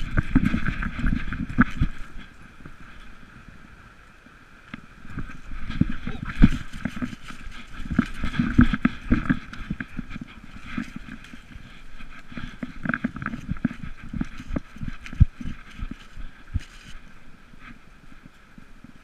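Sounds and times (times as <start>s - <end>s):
dog paws on gravel: 0.0s - 3.2s, 5.0s - 19.0s.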